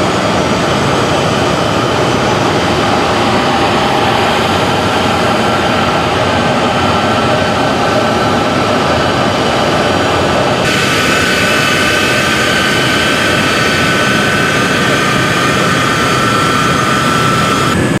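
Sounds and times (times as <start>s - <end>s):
aircraft engines running loudly: 0.0s - 18.0s
high turbine whine: 0.0s - 18.0s.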